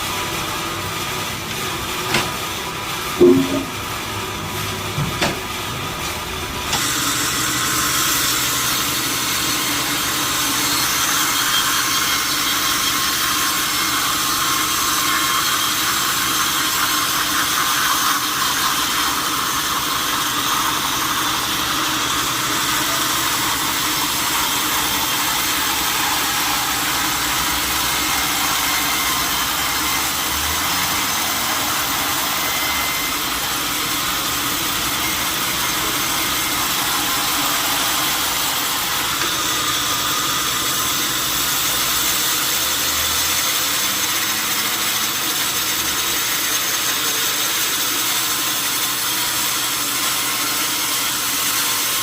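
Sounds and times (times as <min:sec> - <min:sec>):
sawmill saw cutting log: 0:00.0 - 0:52.0.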